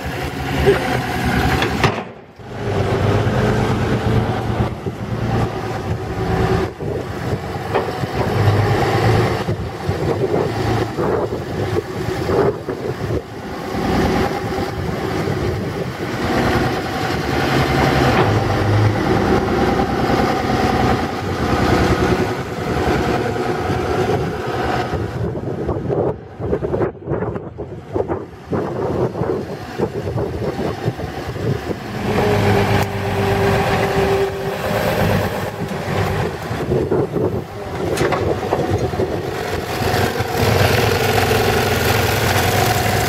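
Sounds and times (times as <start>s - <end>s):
excavator engine running: 0.0s - 43.0s.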